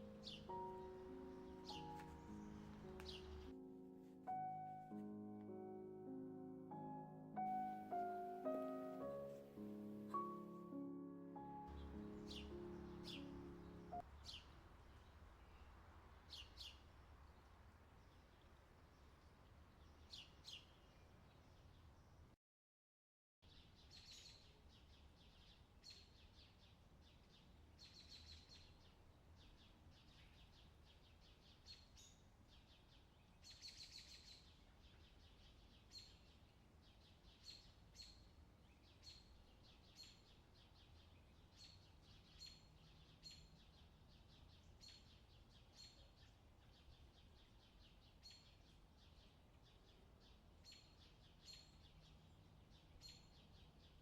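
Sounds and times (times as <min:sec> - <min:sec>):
small birds chirping: 0:00.0 - 0:03.6, 0:06.8 - 0:22.3, 0:23.5 - 0:54.0.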